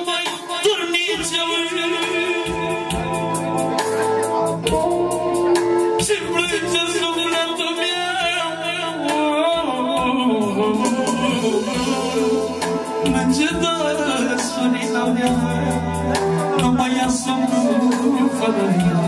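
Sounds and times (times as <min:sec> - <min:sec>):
man singing into a microphone: 0:00.0 - 0:03.8, 0:04.6 - 0:19.0
electronic keyboard: 0:00.0 - 0:19.0
steady beat: 0:00.0 - 0:19.0.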